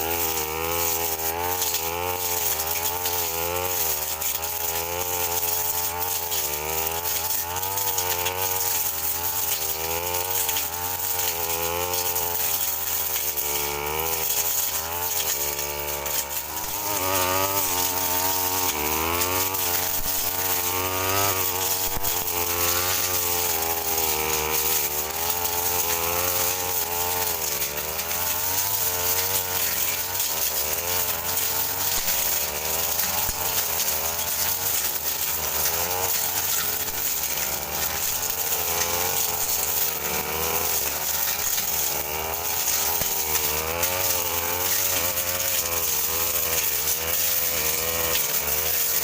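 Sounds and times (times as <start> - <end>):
brush cutter engine: 0.0 - 49.0.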